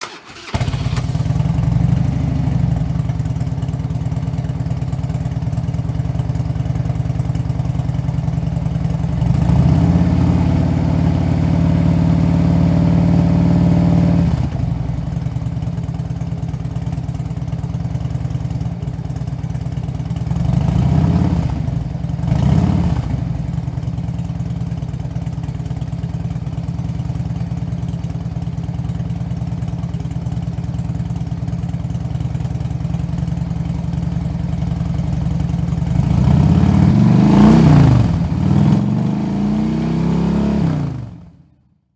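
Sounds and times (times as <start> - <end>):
motorcycle engine idling and revving: 0.0 - 41.7.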